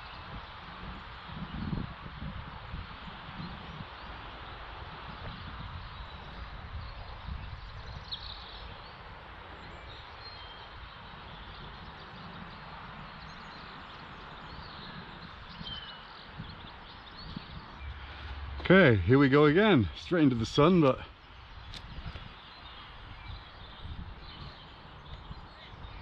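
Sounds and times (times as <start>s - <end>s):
wind rumble on microphone: 0.0s - 26.0s
bird chirps: 3.4s - 26.0s.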